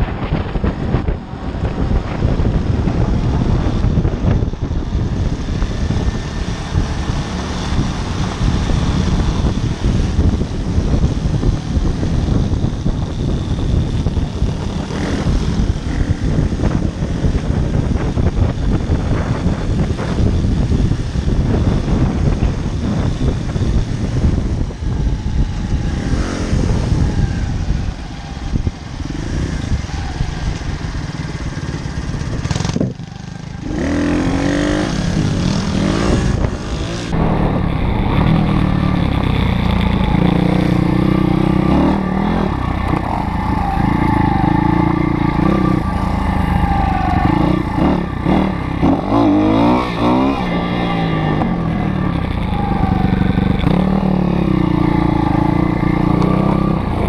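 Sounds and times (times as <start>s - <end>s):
wind noise on microphone: 0.0s - 57.0s
small motorbike engine revving: 5.0s - 57.0s.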